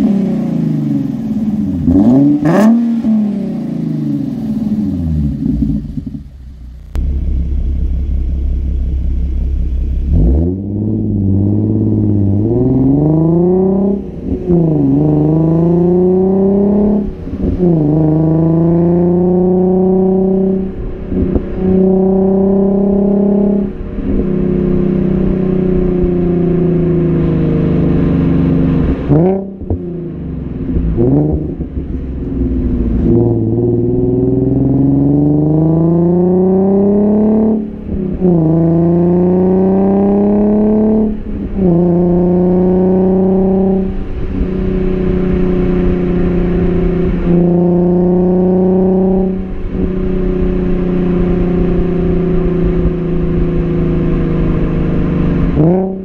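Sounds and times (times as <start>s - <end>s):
car engine accelerating and upshifting: 0.0s - 56.0s.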